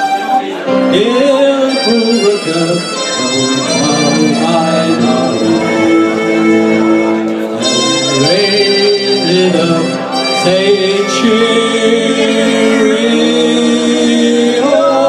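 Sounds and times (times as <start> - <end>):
live band music: 0.0 - 15.0
voices singing held notes: 0.0 - 15.0.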